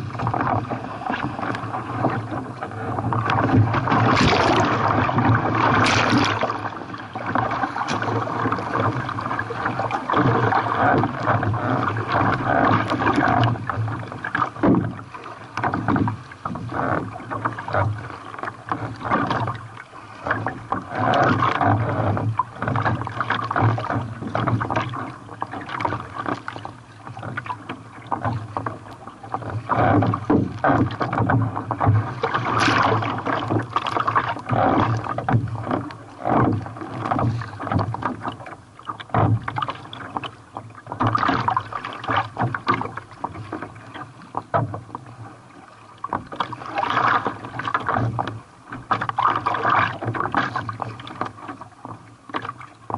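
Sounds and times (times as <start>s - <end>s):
sea water splashing around kayak: 0.0s - 52.9s.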